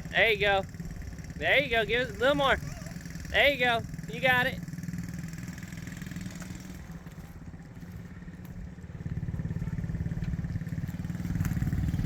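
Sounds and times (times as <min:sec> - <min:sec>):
small vehicle engine running: 0:00.0 - 0:12.0.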